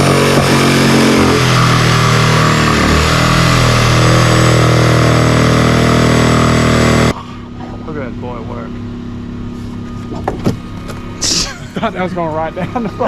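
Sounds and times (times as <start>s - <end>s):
engine running hard under load: 0.0s - 13.0s.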